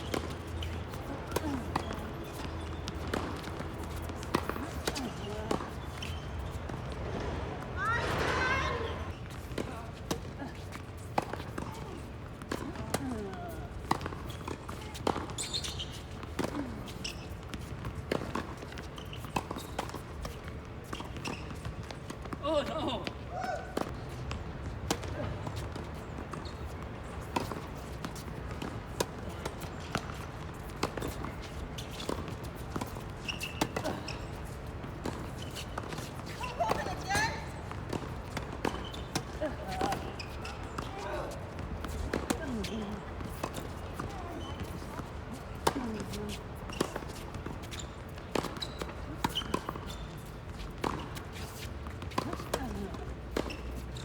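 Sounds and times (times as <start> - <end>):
tennis balls struck and bouncing: 0.0 - 54.0.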